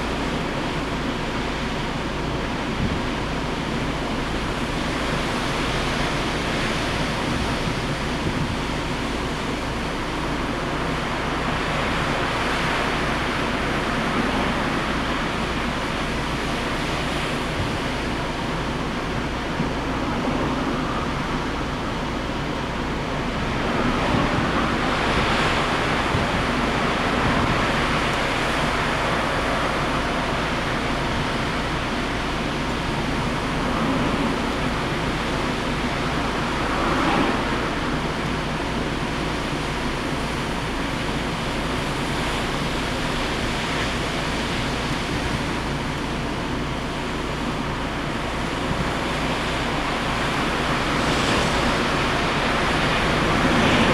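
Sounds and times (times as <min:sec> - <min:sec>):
rushing wind: 0:00.0 - 0:53.9
waves breaking: 0:04.4 - 0:53.9.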